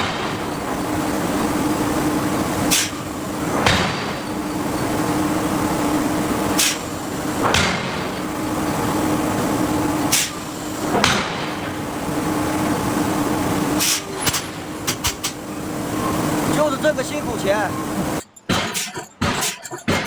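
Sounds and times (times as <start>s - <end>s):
machine hum: 0.0s - 18.4s
forging hammer striking steel: 0.0s - 20.0s.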